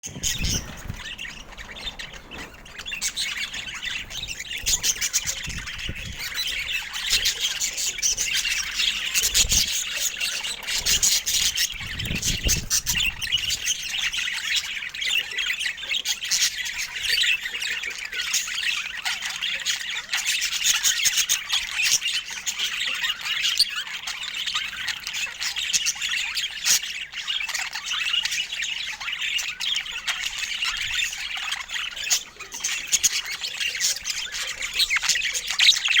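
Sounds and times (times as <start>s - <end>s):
budgerigars chattering and squawking: 0.0s - 36.0s.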